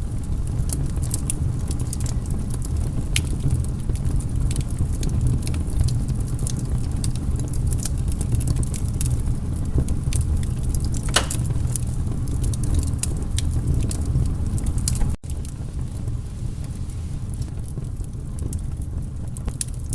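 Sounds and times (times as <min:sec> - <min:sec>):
fire popping: 0:00.0 - 0:19.9
wood fire crackling: 0:00.0 - 0:19.9.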